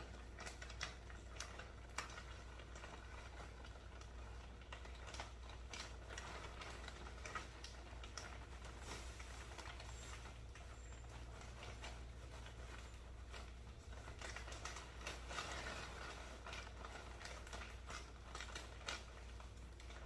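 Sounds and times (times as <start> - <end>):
leaves and pot rustling: 0.0 - 20.0.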